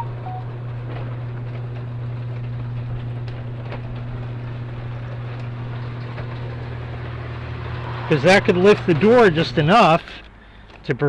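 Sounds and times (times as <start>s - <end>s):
machine low hum: 0.0s - 10.6s.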